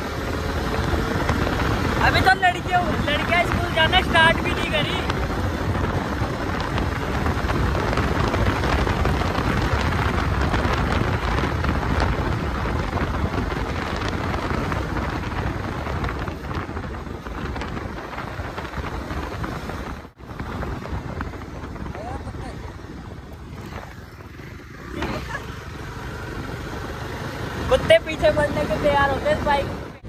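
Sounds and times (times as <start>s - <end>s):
motorcycle road noise: 0.0s - 30.0s
wind roaring over microphone: 0.0s - 30.0s.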